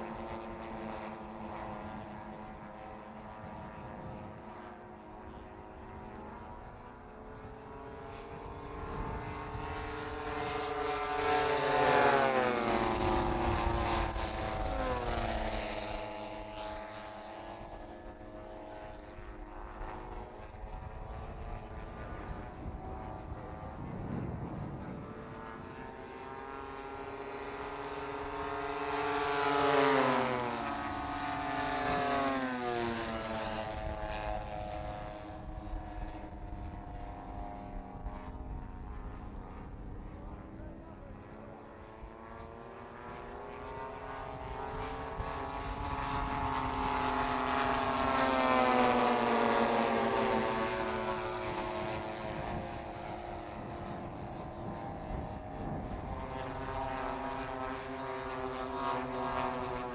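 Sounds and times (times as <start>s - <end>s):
propeller planes flying past: 0.0s - 59.9s.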